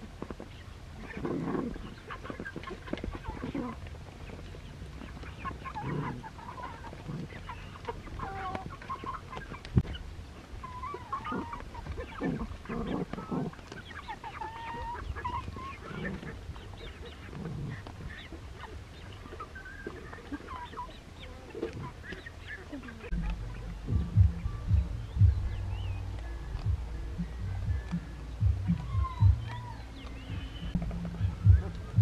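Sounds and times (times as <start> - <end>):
ducks quacking: 1.0 - 10.0, 10.6 - 32.0.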